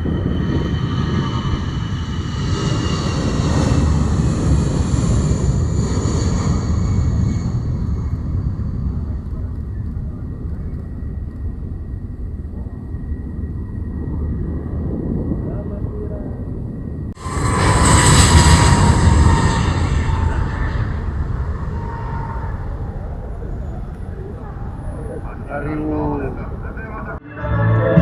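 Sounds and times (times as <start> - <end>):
high engine whine: 0.0 - 15.4, 16.7 - 27.2
turboprop aircraft rumble: 0.0 - 27.2.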